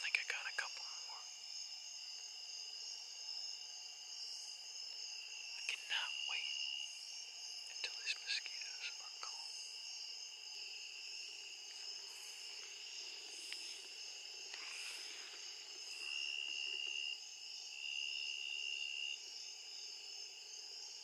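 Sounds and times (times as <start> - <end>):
crickets and insects trilling: 0.0 - 21.0
loud close insect trill: 0.0 - 21.0.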